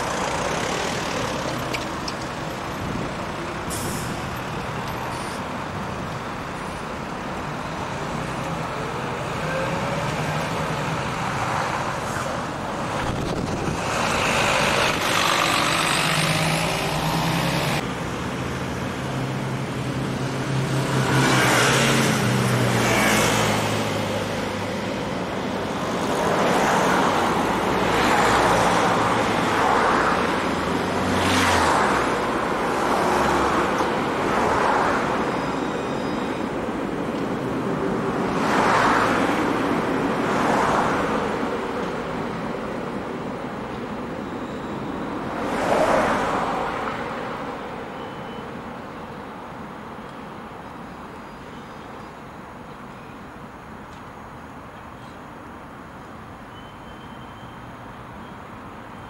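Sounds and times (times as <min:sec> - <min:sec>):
cars passing: 0:00.0 - 0:51.2.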